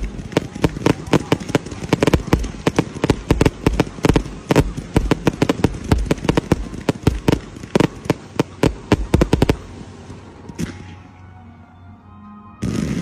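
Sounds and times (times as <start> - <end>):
fireworks bangs: 0.0 - 11.0, 12.6 - 13.0.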